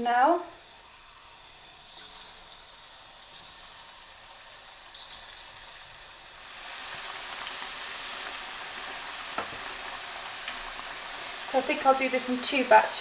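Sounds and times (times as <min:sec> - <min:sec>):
chips frying in hot oil: 0:00.0 - 0:13.0.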